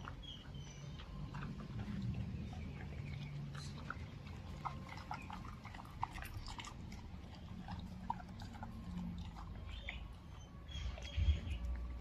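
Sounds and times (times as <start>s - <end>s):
dog chewing raw meat: 0.0s - 12.0s.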